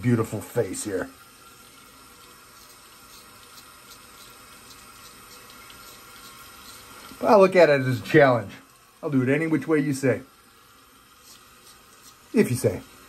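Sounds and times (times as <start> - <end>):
water running from tap: 0.0 - 13.0.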